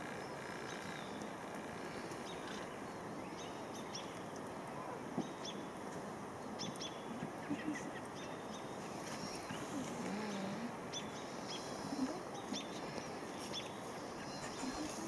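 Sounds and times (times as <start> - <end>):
small birds chirping: 0.0 - 4.4, 6.4 - 15.0
outdoor background hiss: 0.0 - 15.0.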